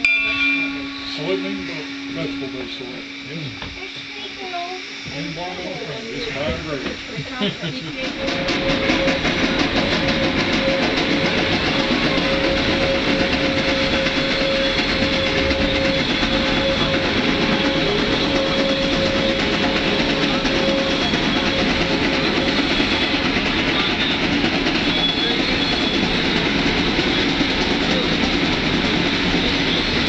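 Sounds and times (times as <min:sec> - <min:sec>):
steady whining tone: 0:00.0 - 0:30.0
steam locomotive chuffing: 0:00.0 - 0:30.0.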